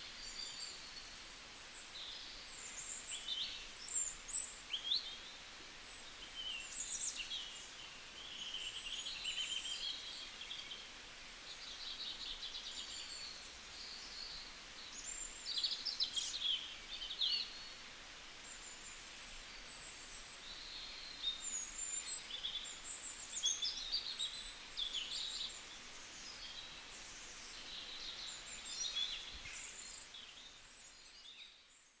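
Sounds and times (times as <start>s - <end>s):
faint background hiss: 0.0s - 32.0s
songbirds singing and chirping: 0.0s - 32.0s.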